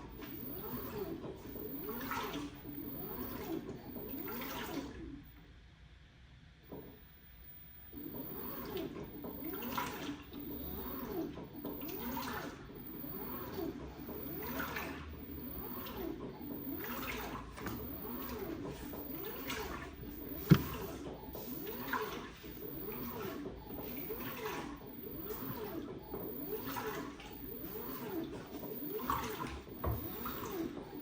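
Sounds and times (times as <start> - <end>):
washing machine sloshing: 0.0 - 5.3, 8.0 - 31.0.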